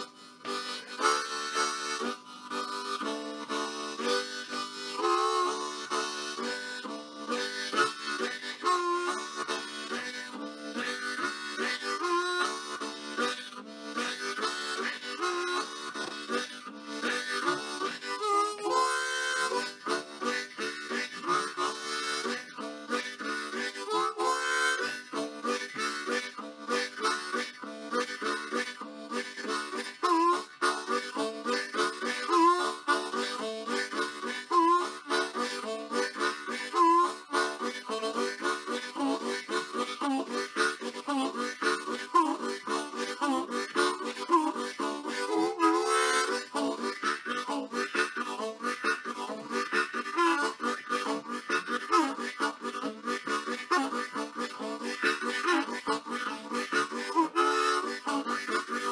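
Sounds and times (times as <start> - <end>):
harmonica music: 0.0 - 58.9.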